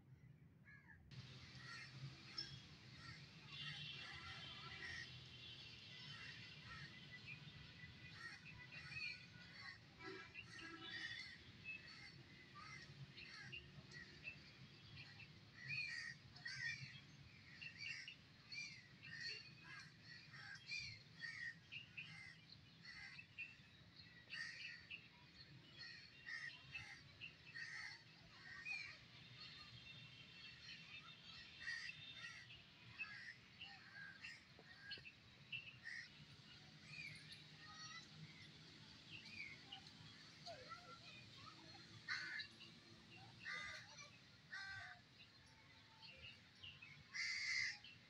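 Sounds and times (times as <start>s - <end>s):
small birds chirping: 1.1s - 48.0s.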